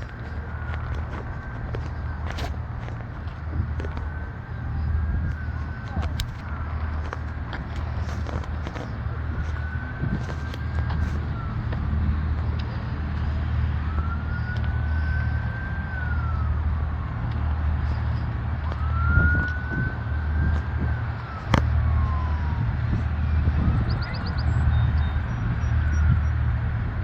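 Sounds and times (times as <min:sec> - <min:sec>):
emergency vehicle siren wailing: 0:00.0 - 0:27.0.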